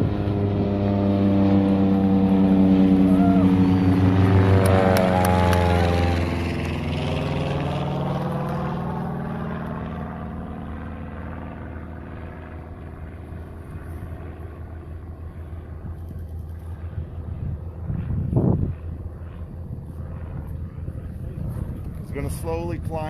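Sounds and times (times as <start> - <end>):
aircraft propeller hum: 0.0 - 23.0.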